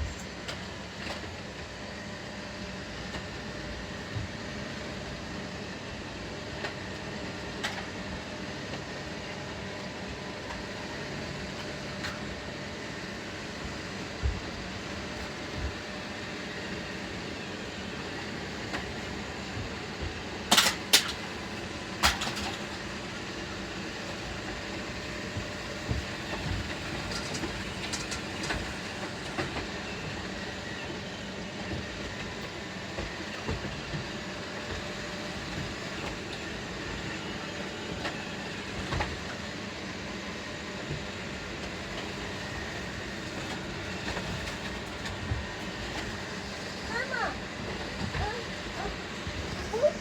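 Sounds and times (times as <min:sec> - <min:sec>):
robot vacuums whirring: 0:07.8 - 0:50.0.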